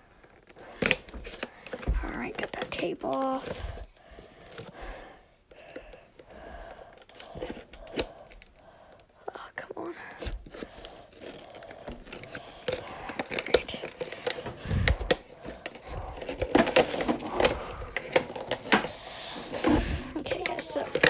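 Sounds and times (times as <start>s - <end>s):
cardboard and tape rustling: 0.0s - 21.0s.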